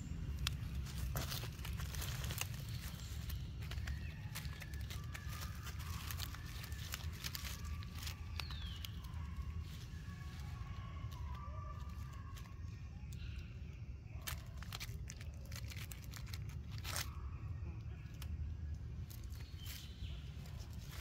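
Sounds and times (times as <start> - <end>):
dry leaves crackling and rustling: 0.0 - 21.0
steady low rumble: 0.0 - 21.0.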